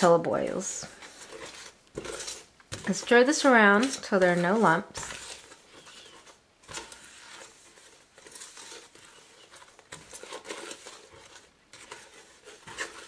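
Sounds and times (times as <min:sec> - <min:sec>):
spoon scraping dry powder in pot: 0:00.0 - 0:13.0.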